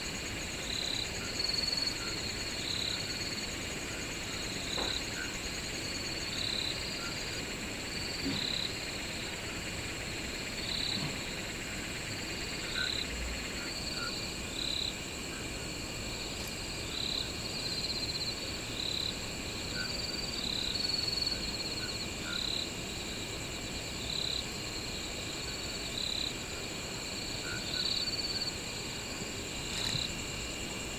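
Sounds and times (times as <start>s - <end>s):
crickets trilling: 0.0s - 30.9s
short insect call: 0.0s - 30.9s.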